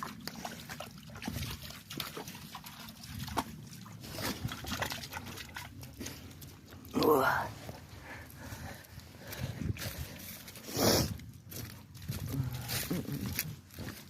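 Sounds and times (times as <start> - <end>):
trickling water: 0.0 - 14.0.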